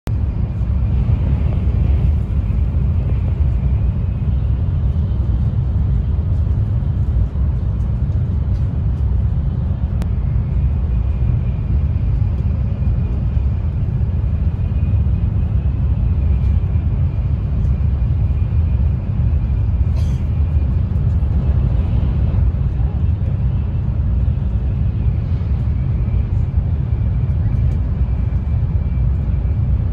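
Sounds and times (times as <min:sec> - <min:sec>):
train cabin rumble: 0:00.1 - 0:29.9.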